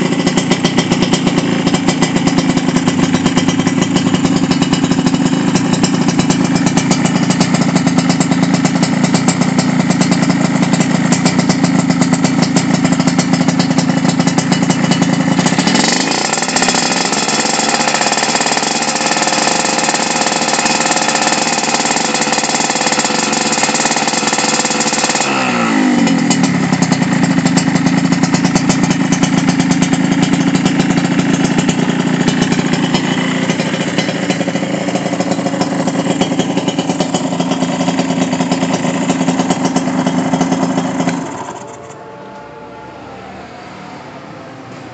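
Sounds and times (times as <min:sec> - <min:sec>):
two-stroke motorcycle engine revving: 0:00.0 - 0:42.1.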